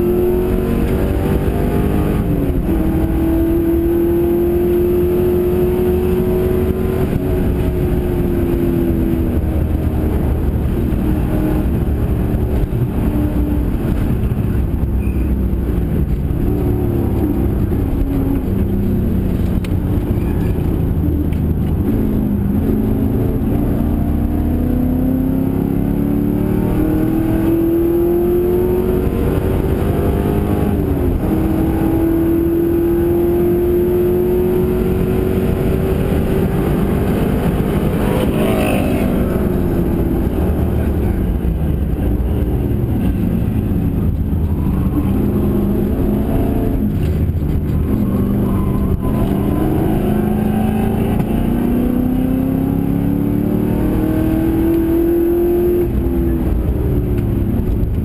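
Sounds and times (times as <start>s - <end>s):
race car engine revving: 0.0s - 14.8s, 15.5s - 58.0s.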